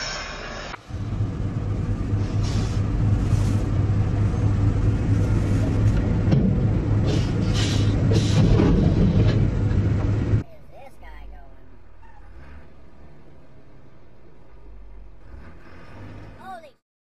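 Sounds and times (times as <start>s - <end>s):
road rumble: 0.0s - 16.8s
vehicle engine hum: 0.0s - 16.8s.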